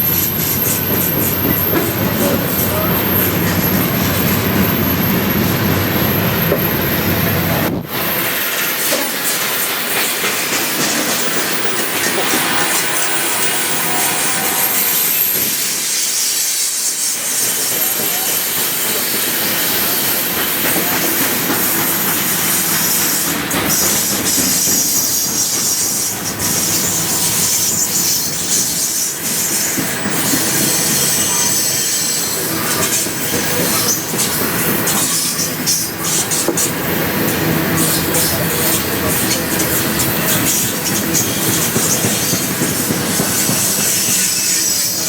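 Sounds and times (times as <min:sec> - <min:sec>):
high wheel squeal: 0:00.0 - 0:10.0, 0:10.7 - 0:45.0
freight train wheels on rails: 0:00.0 - 0:45.0
train clanks: 0:00.0 - 0:45.0.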